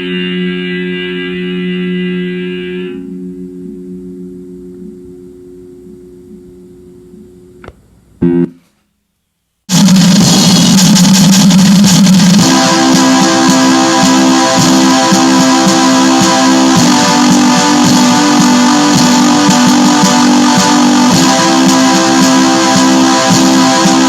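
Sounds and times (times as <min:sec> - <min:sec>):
distorted electric guitar and bass: 0:00.0 - 0:07.5, 0:08.2 - 0:08.6, 0:09.7 - 0:24.0
faint held drone: 0:00.0 - 0:08.7, 0:09.7 - 0:24.0.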